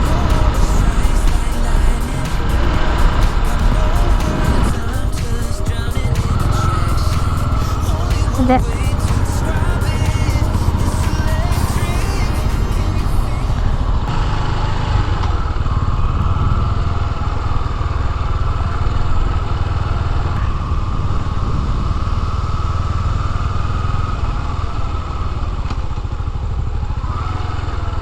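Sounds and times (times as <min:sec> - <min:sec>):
motorcycle engine rumble: 0:00.0 - 0:27.2.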